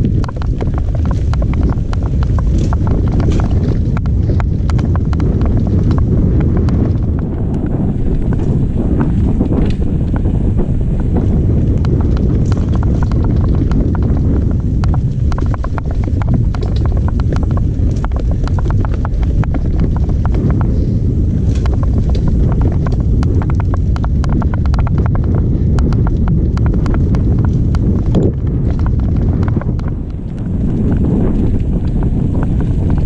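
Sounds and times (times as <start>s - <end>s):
bike rattling over rough trail: 0.0s - 33.0s
wind rumble on microphone: 0.0s - 33.0s.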